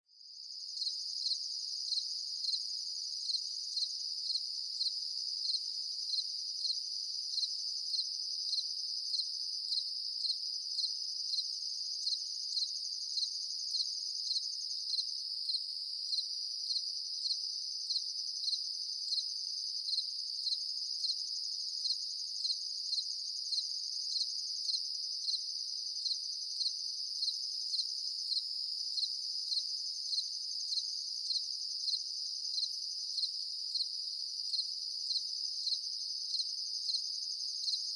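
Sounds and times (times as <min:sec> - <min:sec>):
cricket chirp: 0:00.1 - 0:37.9
crickets trilling: 0:00.4 - 0:37.9.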